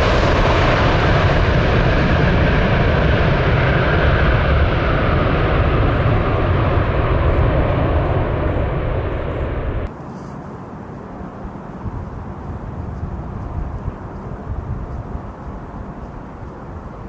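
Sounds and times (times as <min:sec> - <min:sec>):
airliner engines rumbling: 0:00.0 - 0:17.0
outdoor background noise: 0:00.0 - 0:17.0.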